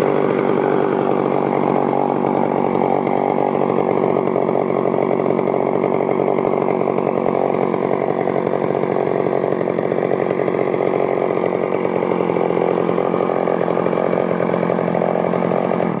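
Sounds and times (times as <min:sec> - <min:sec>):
chainsaw engine running: 0:00.0 - 0:16.0.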